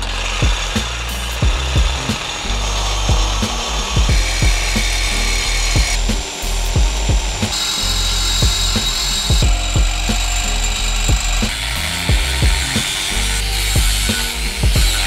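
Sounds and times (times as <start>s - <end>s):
reciprocating saw cutting metal pipe: 0.0s - 15.0s.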